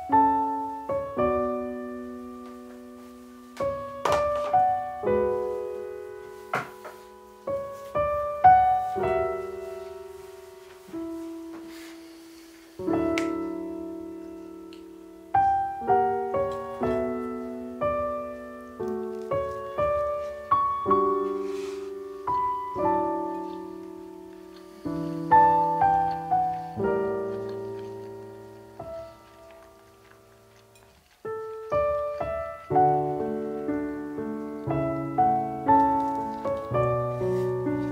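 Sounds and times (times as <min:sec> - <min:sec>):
slow piano music: 0:00.0 - 0:37.9.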